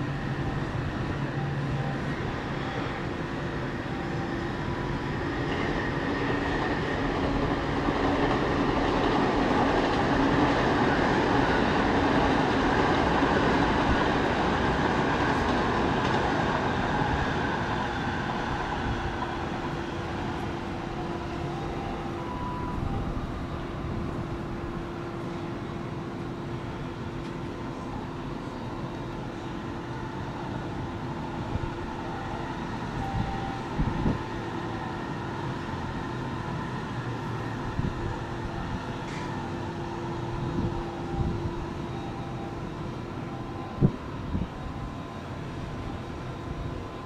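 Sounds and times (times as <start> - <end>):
train passing: 0.0 - 47.0.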